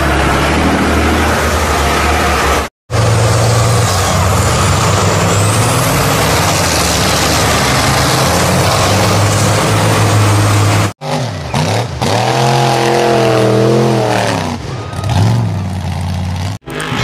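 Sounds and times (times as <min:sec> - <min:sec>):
engine revving up and down: 0:00.0 - 0:17.0
heavy truck engines running hard: 0:00.0 - 0:17.0.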